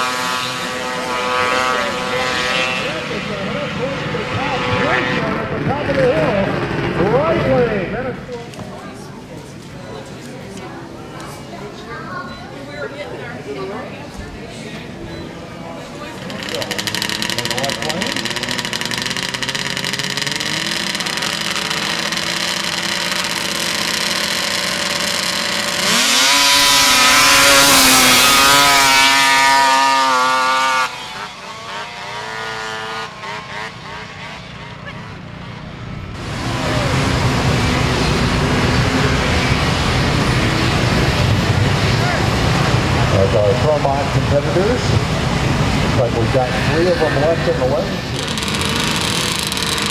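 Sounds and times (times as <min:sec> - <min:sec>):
snowmobile engines revving: 0:00.0 - 0:08.3, 0:14.9 - 0:49.9.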